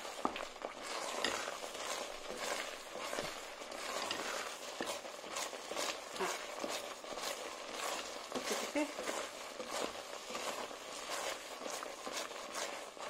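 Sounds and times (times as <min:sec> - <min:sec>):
thick paste sizzling: 0:00.0 - 0:13.0
wooden spoon scraping a pot: 0:00.0 - 0:13.0.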